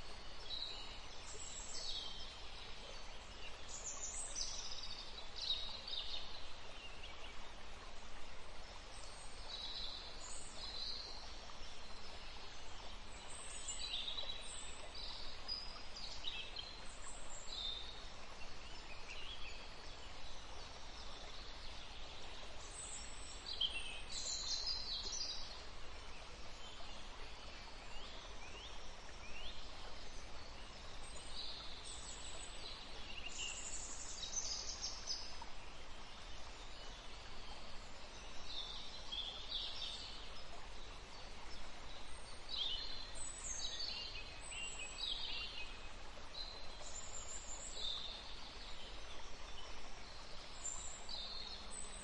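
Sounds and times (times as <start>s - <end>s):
background hiss: 0.0s - 52.0s.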